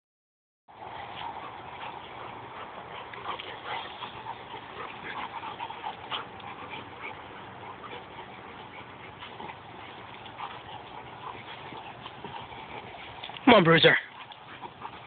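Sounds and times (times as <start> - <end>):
dogs play-fighting: 0.7 - 15.0.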